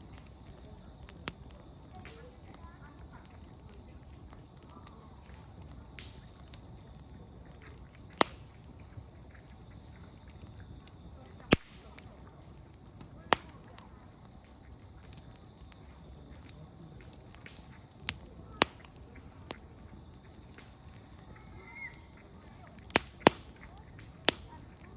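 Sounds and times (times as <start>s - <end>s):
campfire crackling: 0.0s - 24.9s
firewood popping snaps: 0.0s - 24.9s.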